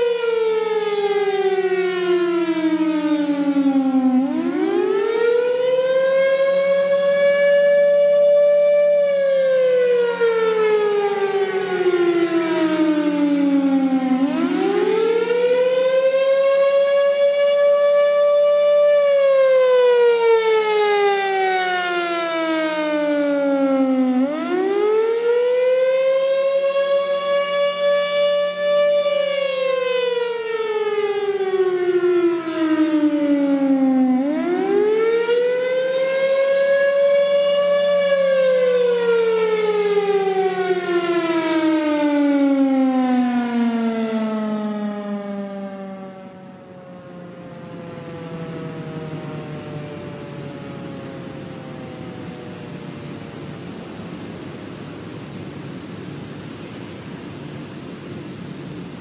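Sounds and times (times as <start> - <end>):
wailing siren: 0.0 - 59.0.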